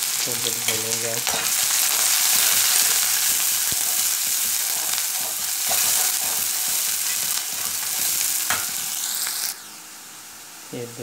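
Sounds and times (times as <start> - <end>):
onions sizzling in hot oil: 0.0 - 10.7.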